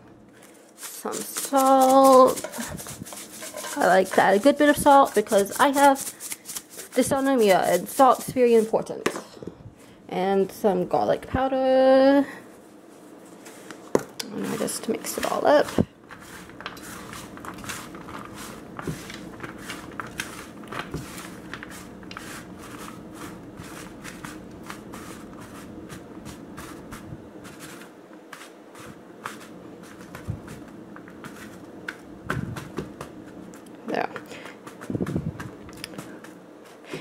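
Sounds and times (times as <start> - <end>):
food rustling on a sheet pan: 0.4 - 9.0, 12.5 - 36.9.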